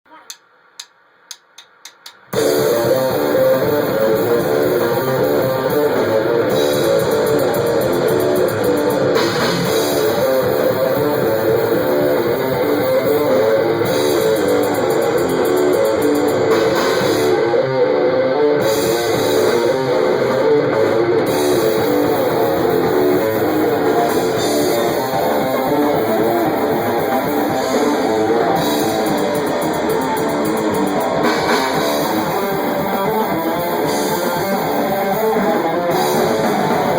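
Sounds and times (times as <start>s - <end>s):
rock band playing loudly: 2.3s - 36.9s.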